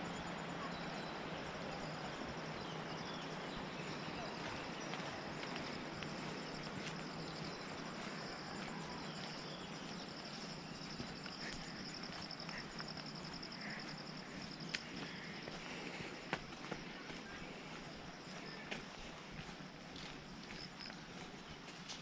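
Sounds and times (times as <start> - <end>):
insects chirring: 0.0 - 22.0
outdoor ambience hiss: 0.0 - 22.0.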